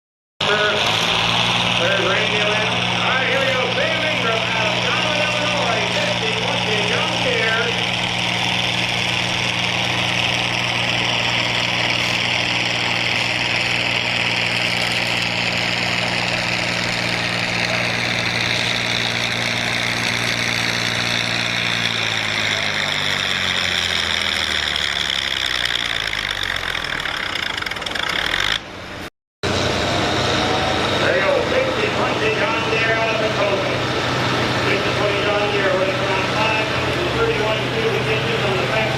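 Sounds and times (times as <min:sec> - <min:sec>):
high whine: 0:00.4 - 0:38.9
pulling engine at high revs: 0:00.4 - 0:38.9.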